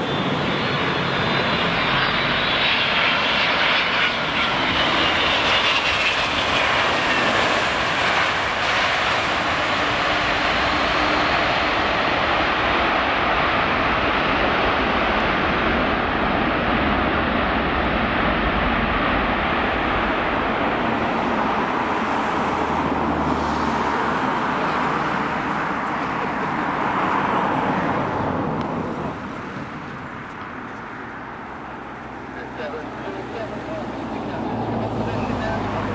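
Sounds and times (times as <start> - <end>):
jet engine noise: 0.0 - 35.9.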